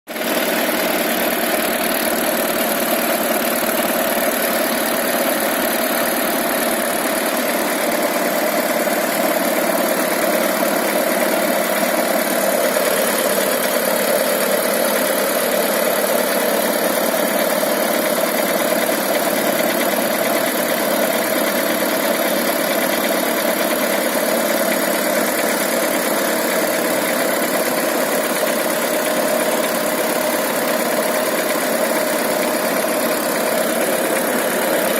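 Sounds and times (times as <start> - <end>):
car engine idling with a knock: 0.2 - 34.9.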